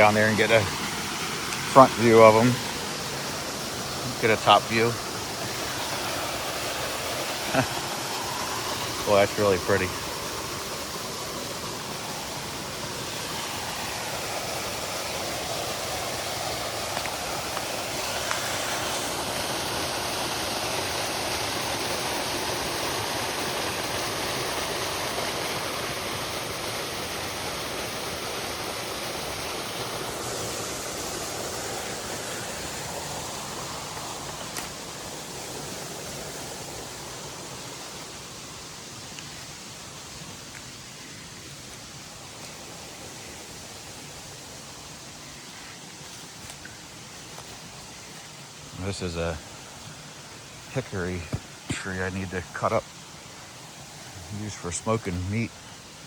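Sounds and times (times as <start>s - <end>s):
water rushing over small waterfalls: 0.0s - 56.0s.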